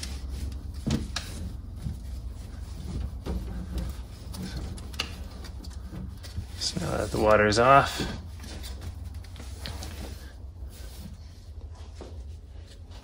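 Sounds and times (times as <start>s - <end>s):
cloth wiping hoses: 0.0s - 13.0s
steady low hum: 0.0s - 13.0s.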